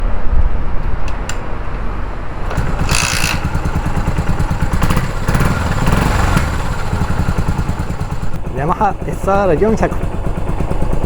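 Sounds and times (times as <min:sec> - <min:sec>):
motorcycle engine thumping: 0:00.8 - 0:11.0.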